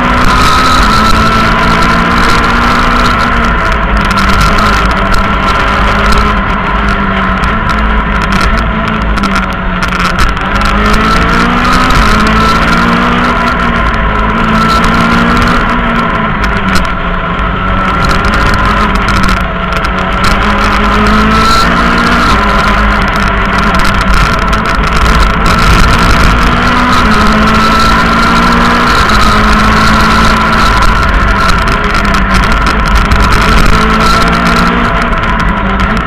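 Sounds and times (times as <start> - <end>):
rally car engine from inside: 0.0 - 36.0
steady high whine: 0.0 - 36.0.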